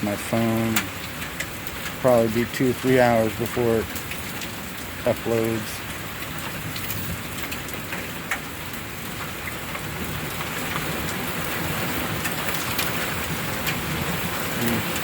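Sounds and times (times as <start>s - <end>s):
heavy rain pouring: 0.0s - 15.0s
hailstones tapping surfaces: 0.2s - 15.0s.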